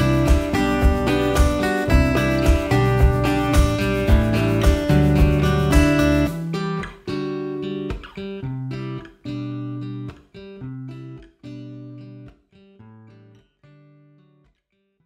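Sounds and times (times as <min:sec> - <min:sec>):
guitar chords strummed: 0:00.0 - 0:14.6.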